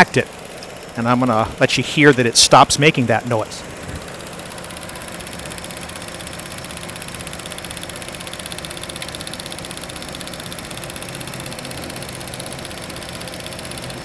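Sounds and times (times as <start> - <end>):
car engine idling: 0.0 - 14.0
rapid solenoid ticking: 0.0 - 14.0.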